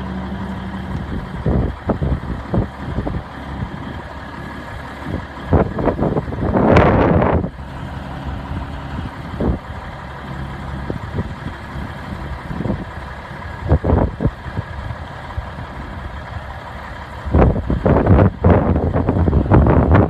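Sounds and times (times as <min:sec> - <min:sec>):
diesel truck engine idling: 0:00.0 - 0:20.0
wind gusts on microphone: 0:00.9 - 0:09.8, 0:10.8 - 0:16.2, 0:17.2 - 0:20.0.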